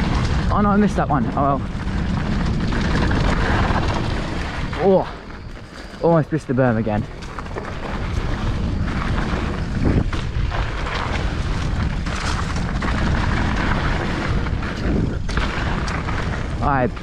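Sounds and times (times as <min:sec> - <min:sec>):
bike knocking and rattling: 0:00.0 - 0:17.0
tyre rumble: 0:00.0 - 0:17.0
wind rushing over microphone: 0:00.0 - 0:17.0.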